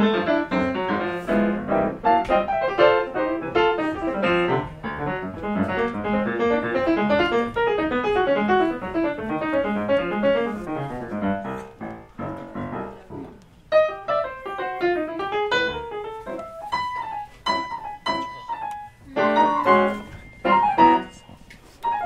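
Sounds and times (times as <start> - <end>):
jazz piano duet: 0.0 - 22.0.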